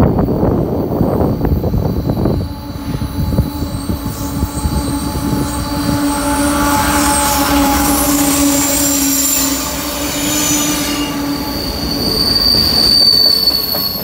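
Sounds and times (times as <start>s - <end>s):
rough gusty rumble: 0.0s - 12.9s
diesel locomotive engines humming: 0.0s - 14.0s.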